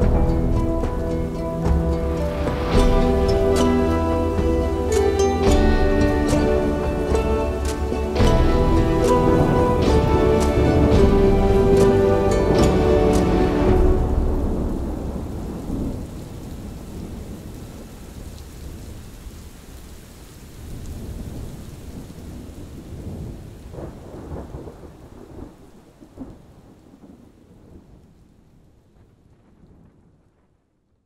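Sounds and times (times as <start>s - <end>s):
thunder rumbling: 0.0s - 30.7s
steady rain: 0.0s - 31.0s.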